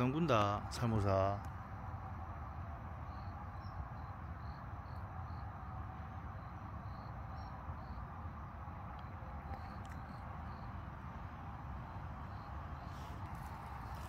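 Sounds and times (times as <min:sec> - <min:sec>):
insects chirping: 0:00.0 - 0:14.0
low background noise: 0:00.0 - 0:14.0.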